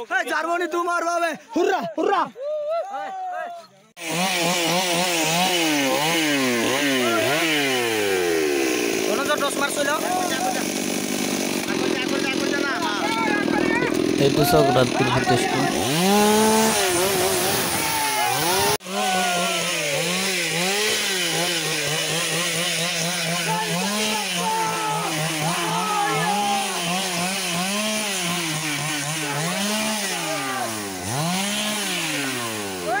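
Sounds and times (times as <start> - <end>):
small engine revving: 4.0 - 33.0.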